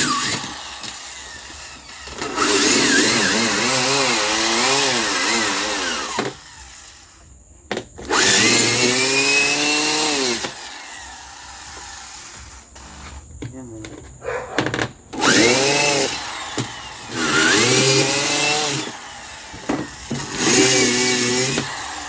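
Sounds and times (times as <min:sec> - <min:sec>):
power drill boring: 0:00.0 - 0:07.3, 0:08.0 - 0:13.3, 0:14.6 - 0:22.0.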